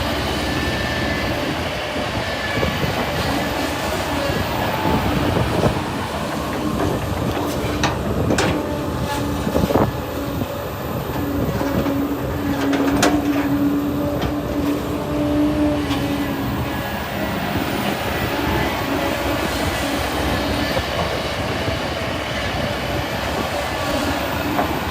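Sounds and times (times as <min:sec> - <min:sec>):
diesel engine under load: 0:00.0 - 0:24.9
hydraulic whine: 0:00.0 - 0:24.9.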